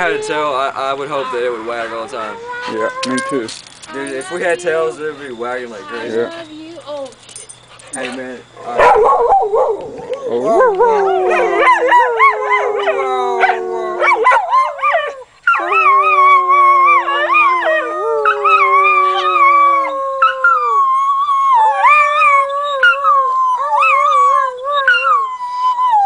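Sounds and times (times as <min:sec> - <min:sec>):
dog howling: 0:00.0 - 0:06.4, 0:08.0 - 0:26.0.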